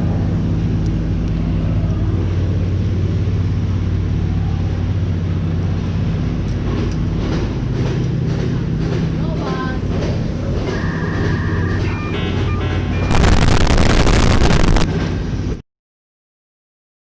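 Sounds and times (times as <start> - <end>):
vehicle engine droning in traffic: 0.0 - 15.6.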